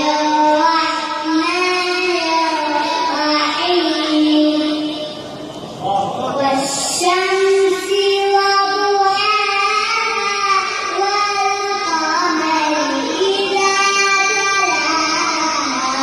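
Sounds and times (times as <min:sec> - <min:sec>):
child reciting in melodic chant: 0:00.0 - 0:05.4, 0:06.0 - 0:16.0.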